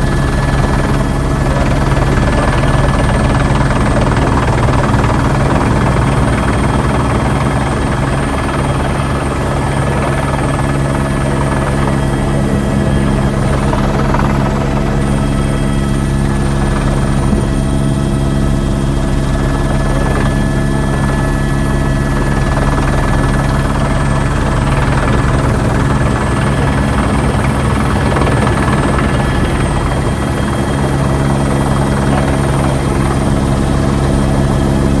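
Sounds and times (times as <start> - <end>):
helicopter rotor and turbine drone: 0.0 - 35.0.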